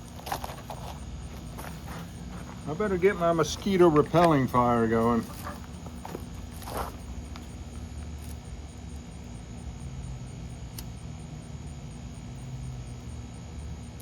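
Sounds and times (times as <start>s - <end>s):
low background rumble and hum: 0.0s - 14.0s.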